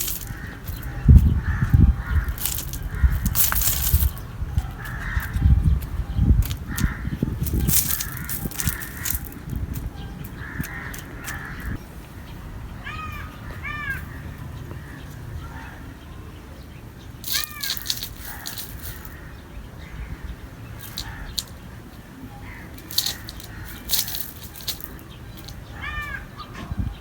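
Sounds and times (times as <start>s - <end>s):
bird calling: 0.0s - 27.0s.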